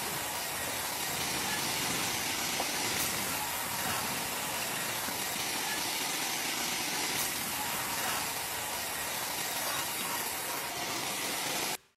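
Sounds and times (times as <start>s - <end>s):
band sawmill running: 0.0s - 11.8s.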